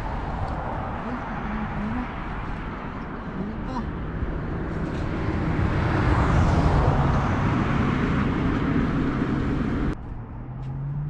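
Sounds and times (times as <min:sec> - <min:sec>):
passing traffic engine hum: 0:00.0 - 0:11.0.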